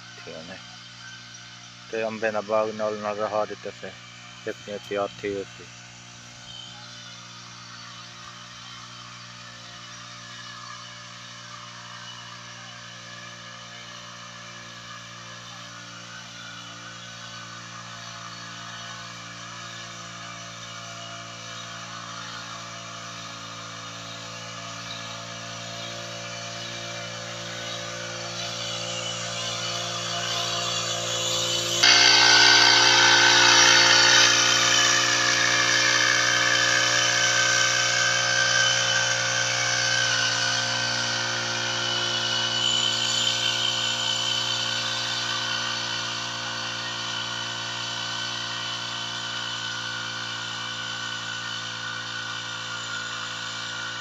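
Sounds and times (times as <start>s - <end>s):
backpack sprayer engine running: 0.0s - 54.0s.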